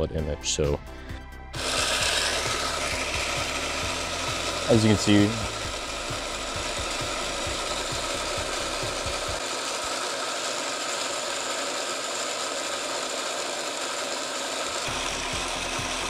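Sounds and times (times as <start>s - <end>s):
spinning disc mechanical whir: 1.6s - 16.0s.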